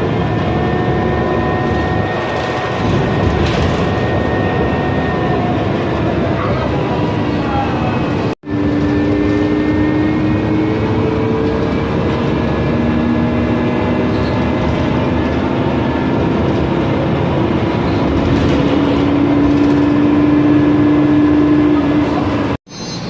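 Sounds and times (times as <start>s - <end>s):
bus running noise: 0.0s - 23.0s
gearbox whine: 0.0s - 23.0s.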